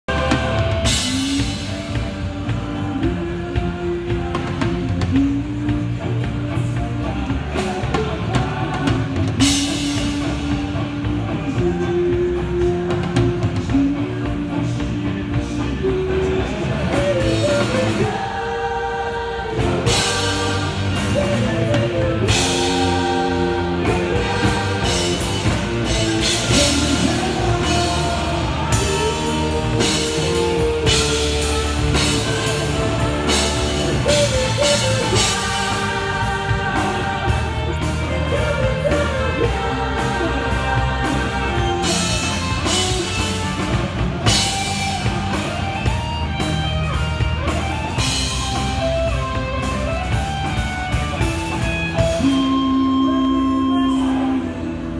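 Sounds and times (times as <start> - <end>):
person singing: 0.0 - 45.9, 51.4 - 54.9
drums: 0.0 - 54.9
electric guitars: 0.0 - 54.9.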